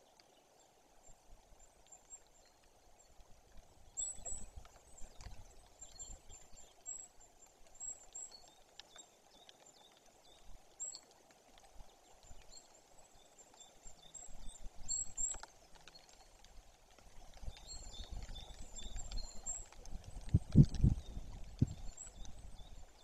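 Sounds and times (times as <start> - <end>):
faint forest hiss: 0.0 - 23.0.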